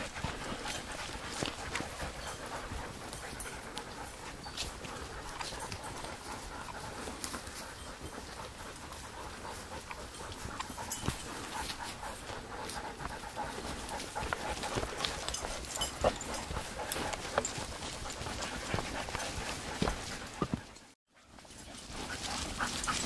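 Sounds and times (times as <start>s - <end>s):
dogs panting: 0.0s - 23.0s
footsteps on a trail: 0.0s - 23.0s.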